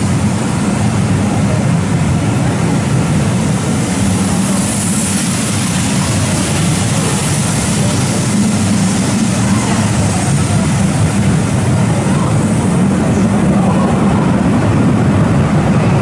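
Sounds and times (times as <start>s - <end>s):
steam hissing: 0.0s - 16.0s
train wheels rumbling on rails: 0.0s - 16.0s.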